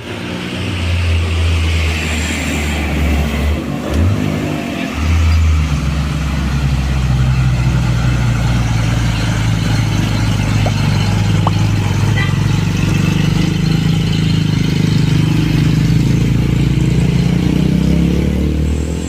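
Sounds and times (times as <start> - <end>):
truck diesel engine droning: 0.0 - 19.0.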